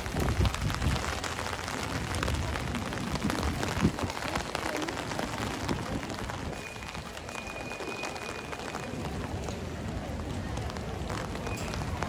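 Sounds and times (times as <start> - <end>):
rain tapping on an umbrella: 0.0 - 12.0.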